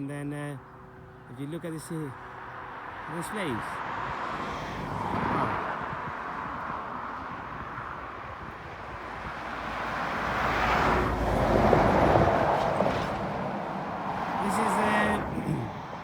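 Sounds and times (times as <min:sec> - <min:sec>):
vehicle passing: 0:02.0 - 0:16.0.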